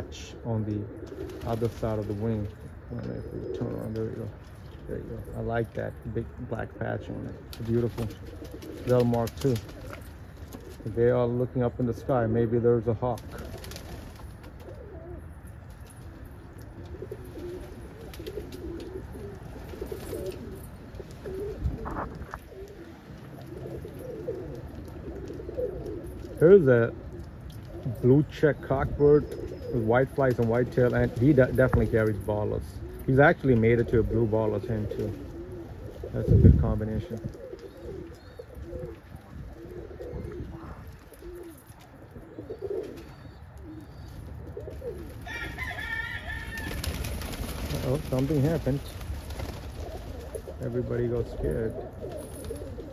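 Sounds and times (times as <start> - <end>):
pigeons cooing: 0.0 - 52.9.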